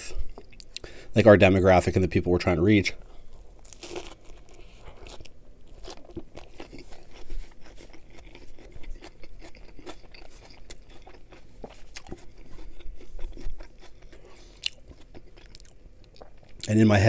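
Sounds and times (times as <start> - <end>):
close chewing with crunches: 3.0 - 16.8.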